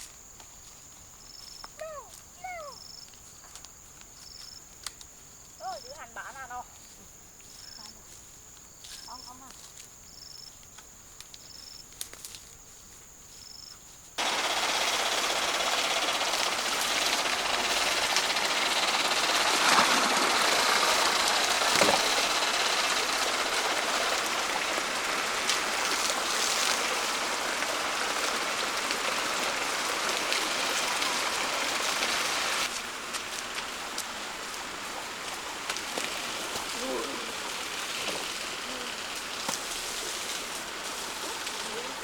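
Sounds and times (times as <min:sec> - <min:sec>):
running water hiss: 0:00.0 - 0:11.8, 0:12.5 - 0:42.0.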